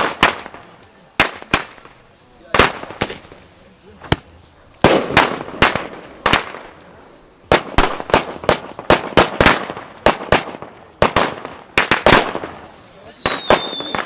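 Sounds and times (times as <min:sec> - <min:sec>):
firecrackers banging: 0:00.0 - 0:14.0.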